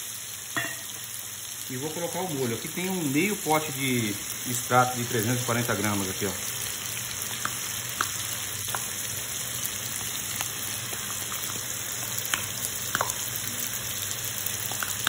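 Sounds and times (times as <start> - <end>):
sausage sizzling in a pan: 0.0 - 15.0.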